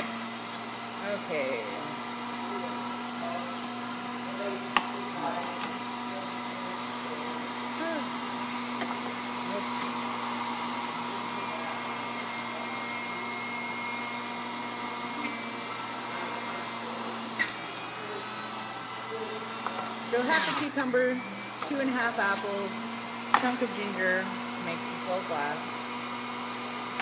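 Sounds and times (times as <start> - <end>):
juicer motor humming: 0.0 - 27.0.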